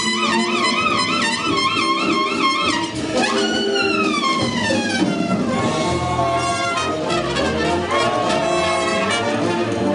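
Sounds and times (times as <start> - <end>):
brass section holding chords: 0.0 - 9.9
trumpet falling glissando: 0.0 - 9.9.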